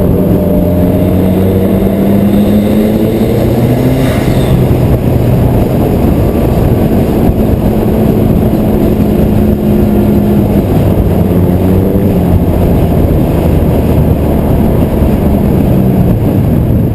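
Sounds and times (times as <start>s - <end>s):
car engine droning: 0.0s - 16.9s
road and wind noise: 0.0s - 16.9s.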